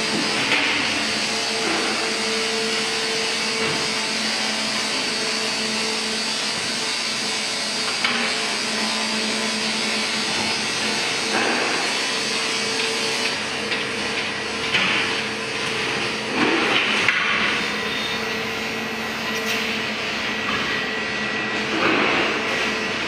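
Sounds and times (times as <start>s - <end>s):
machinery whirring hum: 0.0s - 23.0s.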